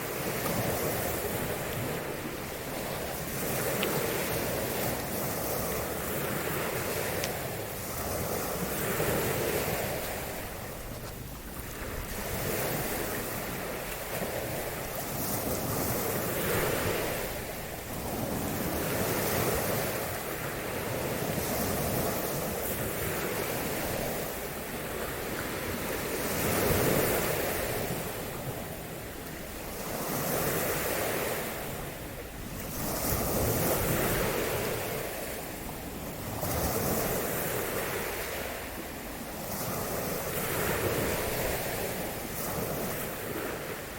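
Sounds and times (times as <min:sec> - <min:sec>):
waves washing onto shore: 0:00.0 - 0:43.9
wind rumbling on microphone: 0:00.0 - 0:43.9.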